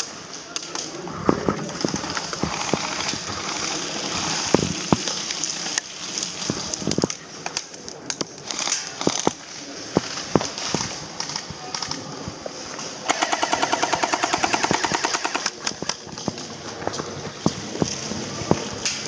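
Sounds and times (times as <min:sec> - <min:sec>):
sharp clicks and cracks: 0:00.0 - 0:19.0
steady rustling hiss: 0:00.0 - 0:19.0.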